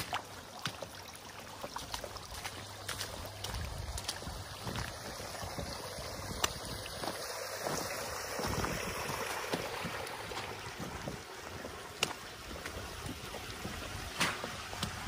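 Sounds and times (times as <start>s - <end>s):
water rushing in channel: 0.0s - 15.0s.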